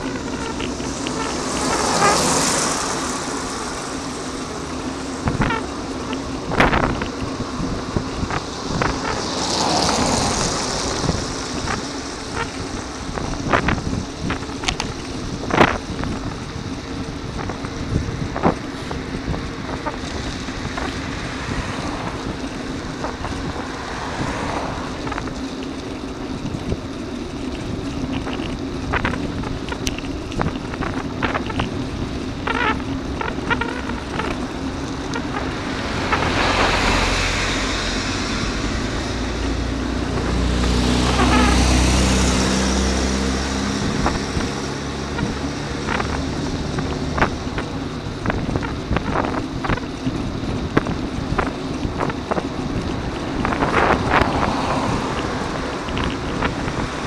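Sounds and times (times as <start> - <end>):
bicycle clicks and rattles: 0.0 - 57.0
car passing: 0.0 - 57.0
road rumble: 0.0 - 57.0
vehicle engine rumble passing: 0.0 - 57.0
wind noise: 0.0 - 57.0.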